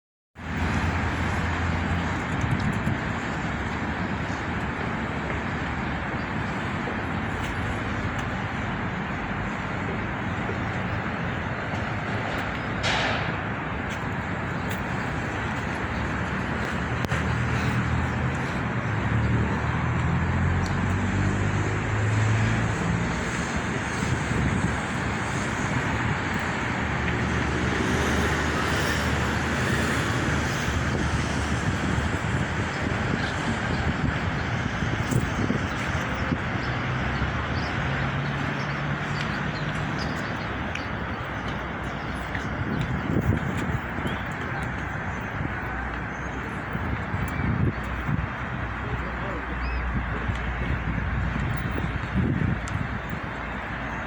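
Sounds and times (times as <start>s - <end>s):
road and wind noise: 0.4s - 54.0s
vehicle engine hum: 0.4s - 54.0s.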